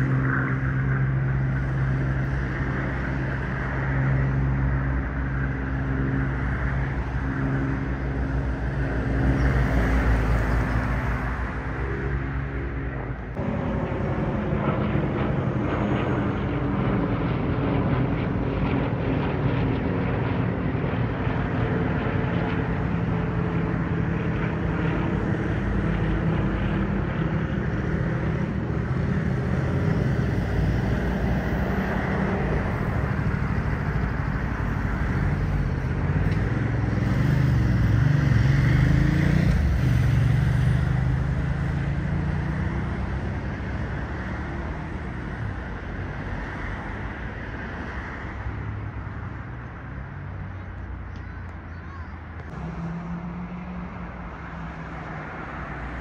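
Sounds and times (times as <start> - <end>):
propeller planes droning overhead: 0.0 - 56.0.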